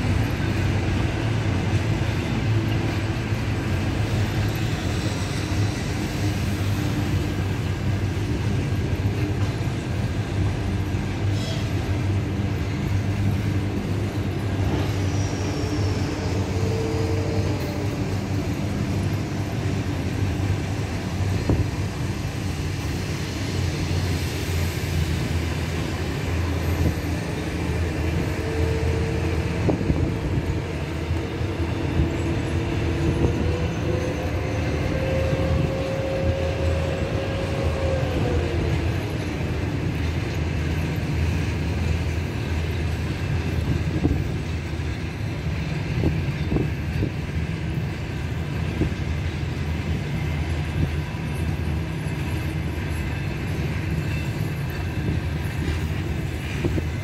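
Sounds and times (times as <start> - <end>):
train coaches rumbling on rails: 0.0 - 57.0.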